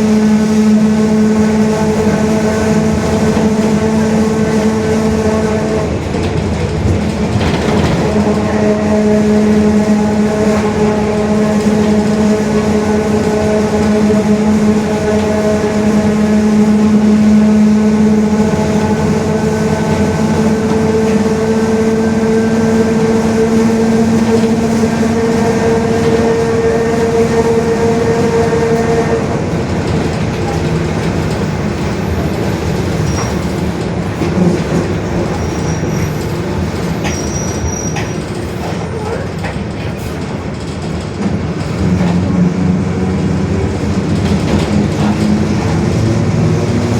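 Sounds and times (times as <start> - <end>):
bus differential gear whine: 0.0 - 46.9
bus running rumble: 0.0 - 46.9.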